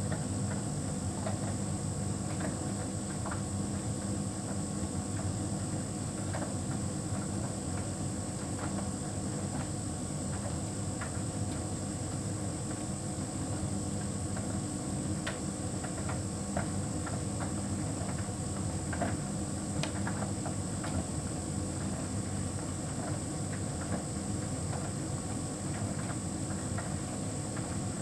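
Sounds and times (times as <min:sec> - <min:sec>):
tumble dryer hum and whine: 0:00.0 - 0:28.0.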